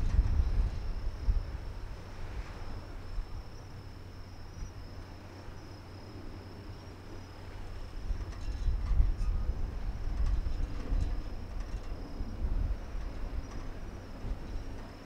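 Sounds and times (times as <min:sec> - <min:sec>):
crickets chirring: 0:00.0 - 0:15.0
low steady rumble: 0:00.0 - 0:15.0.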